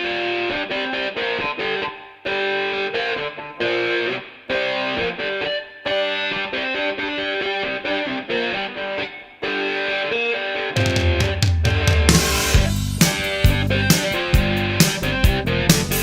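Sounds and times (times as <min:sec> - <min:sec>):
distorted electric guitar chords: 0:00.0 - 0:16.0.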